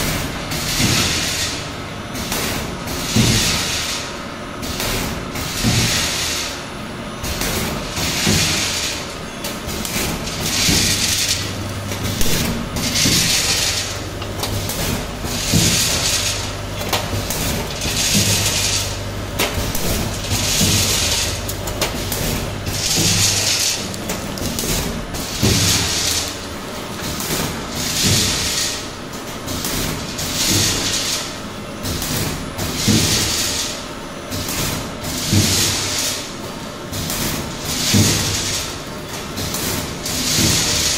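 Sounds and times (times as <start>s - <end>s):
packing machine hiss: 2.2s - 6.6s, 7.2s - 28.9s, 29.5s - 36.3s, 36.9s - 40.9s.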